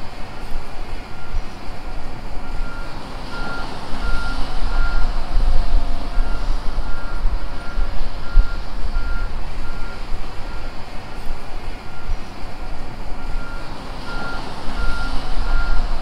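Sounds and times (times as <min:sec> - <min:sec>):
low rumble of machinery: 0:00.0 - 0:16.0
back-up alarm beeping: 0:01.1 - 0:16.0.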